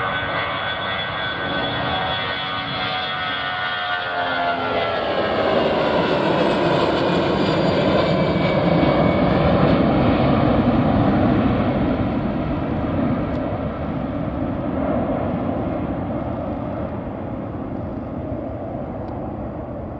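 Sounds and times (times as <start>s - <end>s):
airliner engines whining and roaring: 0.0s - 19.9s.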